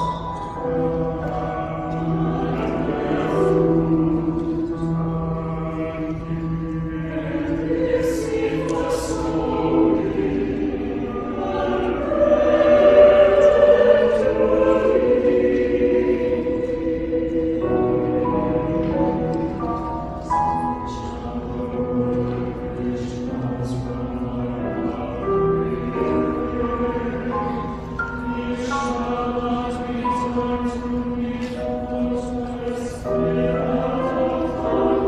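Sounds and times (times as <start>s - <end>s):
choir singing: 0.0s - 35.0s.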